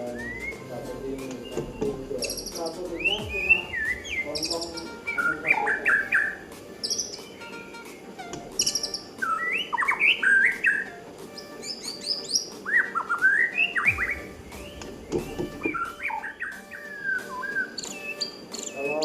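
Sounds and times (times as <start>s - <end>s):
songbird whistling phrases: 0.0s - 7.7s, 8.3s - 19.0s.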